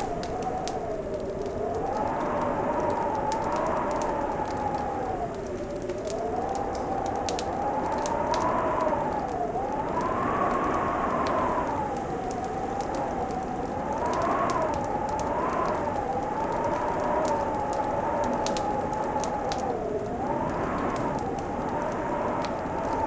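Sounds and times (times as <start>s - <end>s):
fireplace crackling and popping: 0.0s - 23.0s.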